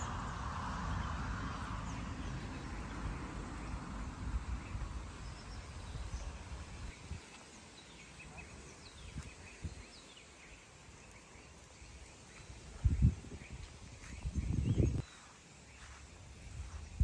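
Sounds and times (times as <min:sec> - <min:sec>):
birds chirping faintly: 0:00.0 - 0:17.0
steady outdoor rush: 0:00.0 - 0:17.0.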